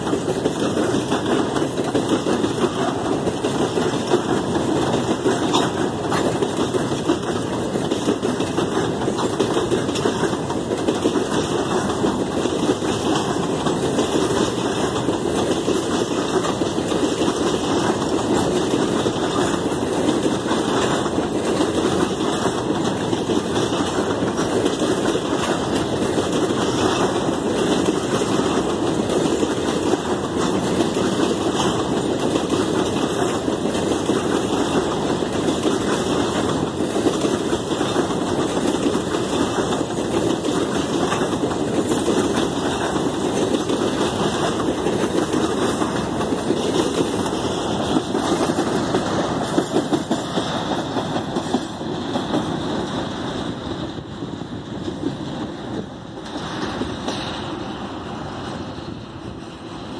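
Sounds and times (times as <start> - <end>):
freight train rumbling past: 0.0 - 59.9
steel wheels clattering on rails: 0.0 - 59.9.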